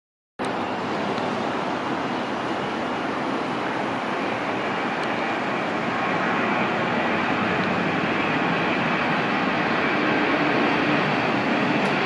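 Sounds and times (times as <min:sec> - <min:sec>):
jet engines roaring at takeoff: 0:00.4 - 0:12.0.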